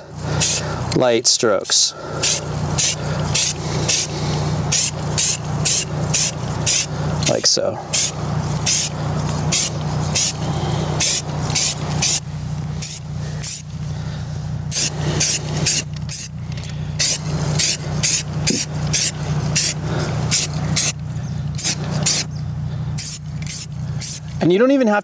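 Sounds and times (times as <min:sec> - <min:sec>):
steady low hum: 0:00.0 - 0:24.7
spray paint can hissing: 0:00.2 - 0:01.0, 0:01.7 - 0:13.8, 0:14.6 - 0:22.3, 0:22.9 - 0:24.4.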